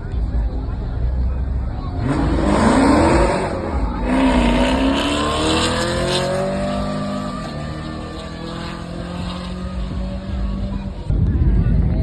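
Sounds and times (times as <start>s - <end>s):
car engine accelerating hard: 1.1s - 11.1s.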